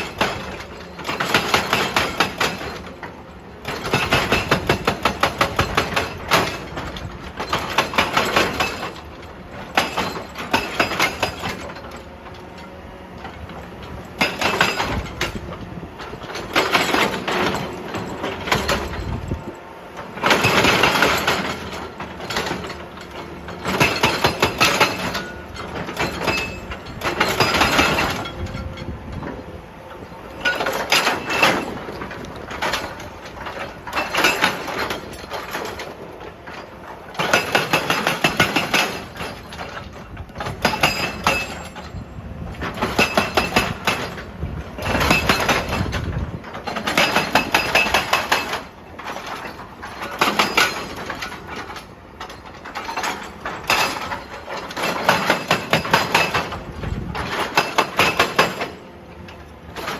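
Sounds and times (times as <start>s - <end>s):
hydraulic breaker hammering rock: 0.0s - 59.9s.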